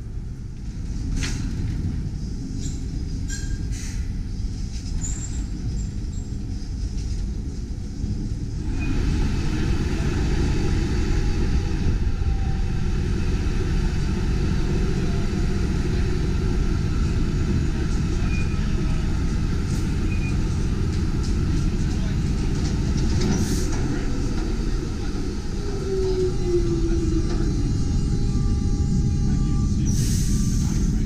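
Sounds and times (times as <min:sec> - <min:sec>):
streetcar wheels rumbling on track: 0:00.0 - 0:31.0.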